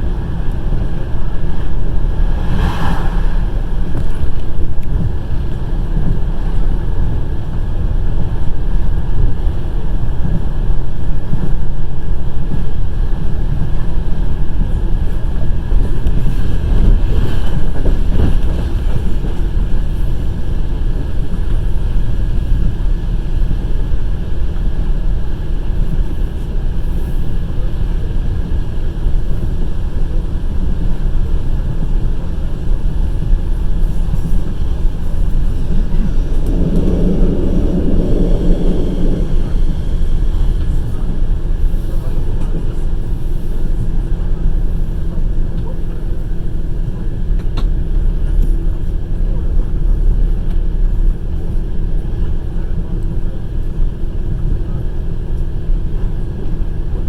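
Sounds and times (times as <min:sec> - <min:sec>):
wind on microphone: 0:00.0 - 0:27.6, 0:28.3 - 0:57.0
train rumbling at speed: 0:00.0 - 0:57.0.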